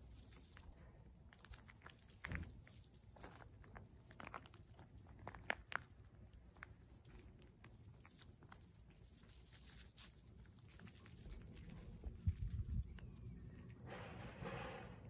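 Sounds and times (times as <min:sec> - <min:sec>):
cat chewing with crunching clicks: 0:00.6 - 0:13.8.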